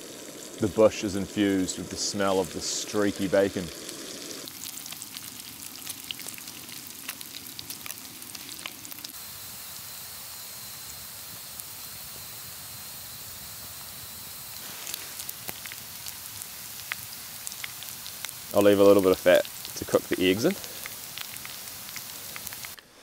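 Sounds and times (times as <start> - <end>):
bacon sizzling in frying pan: 0.0 - 22.8
sharp crackles and pops: 0.0 - 23.0.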